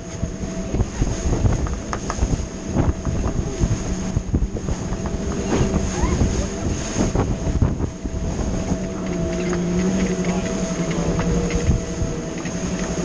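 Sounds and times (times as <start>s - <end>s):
steady low hum: 0.0s - 13.0s
water rushing past hulls: 0.0s - 13.0s
wind buffeting microphone: 0.0s - 13.0s.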